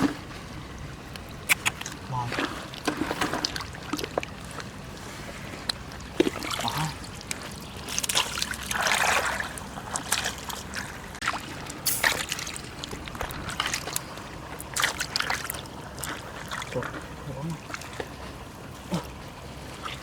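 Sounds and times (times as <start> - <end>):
water trickling and sloshing: 0.0 - 20.0.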